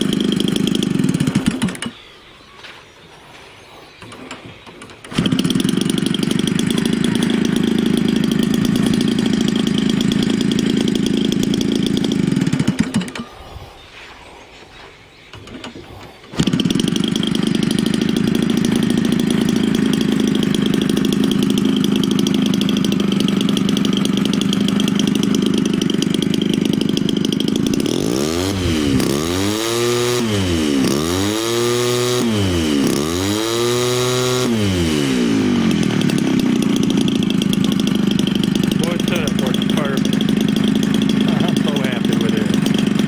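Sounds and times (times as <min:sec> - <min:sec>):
small two-stroke engine running: 0:00.0 - 0:02.0, 0:04.1 - 0:13.4, 0:15.4 - 0:43.0.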